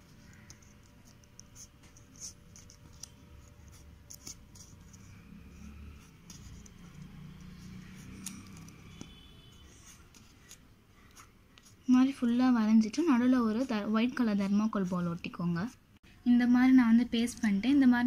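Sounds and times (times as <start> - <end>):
felt-tip pen scratching on paper: 0.0 - 15.8.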